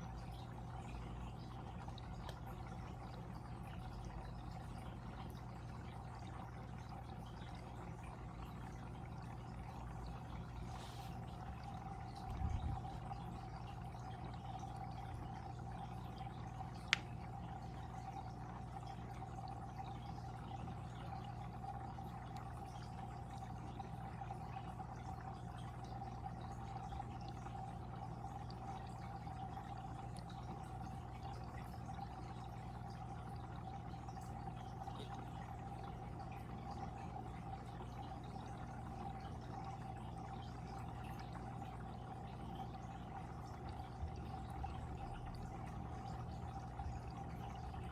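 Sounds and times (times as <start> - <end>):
low steady hum: 0.0 - 47.9
water flowing in fish tank: 0.0 - 47.9.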